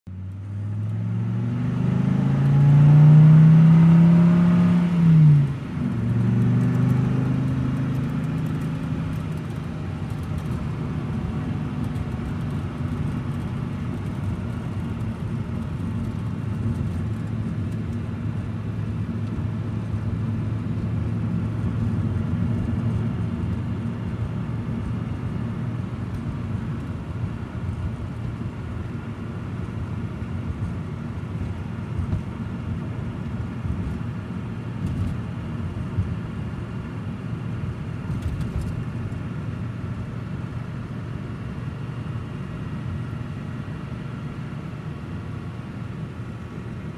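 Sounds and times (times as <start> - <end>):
car engine hum: 0.1 - 46.9
road noise: 0.1 - 46.9.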